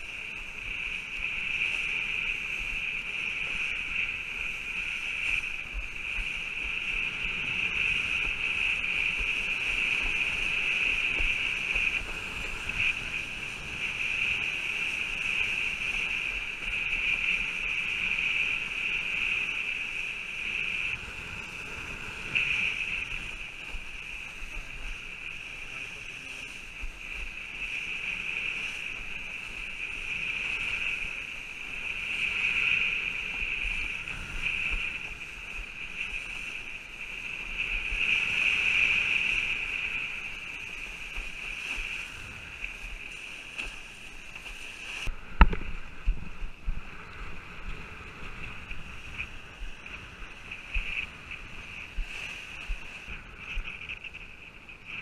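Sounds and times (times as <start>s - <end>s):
high-pitched hiss: 0.0s - 55.0s
water and wind rushing: 0.0s - 55.0s.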